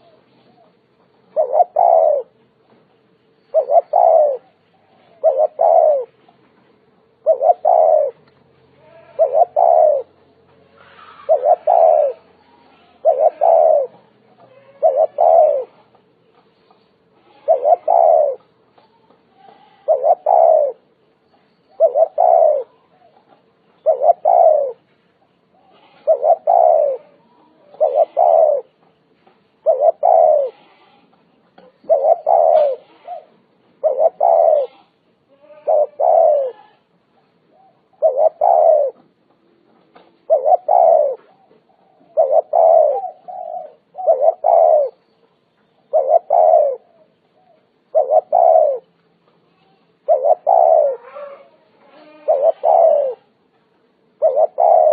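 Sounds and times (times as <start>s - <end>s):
dove cooing: 0.0s - 2.4s, 3.5s - 6.4s, 7.0s - 16.4s, 17.1s - 21.0s, 21.7s - 28.9s, 29.6s - 49.0s, 49.9s - 53.4s, 54.0s - 54.9s.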